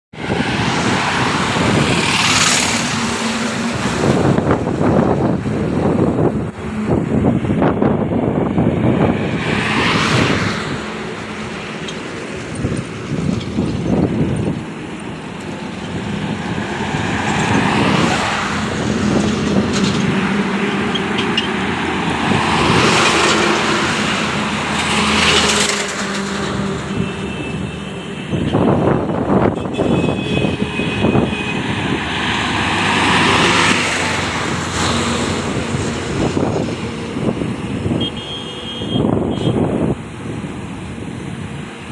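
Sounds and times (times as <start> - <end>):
heavy trucks passing: 0.1 - 41.9.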